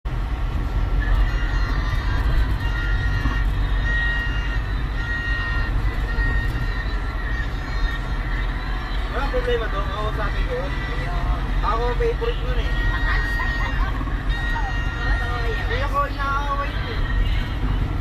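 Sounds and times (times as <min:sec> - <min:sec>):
motor vehicle rumble: 0:00.0 - 0:18.0.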